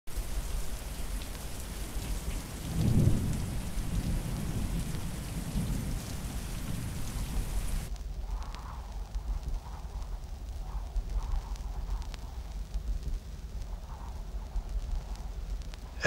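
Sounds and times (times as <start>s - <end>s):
steady rain falling: 0.1s - 16.0s
low roll of thunder: 0.2s - 16.0s.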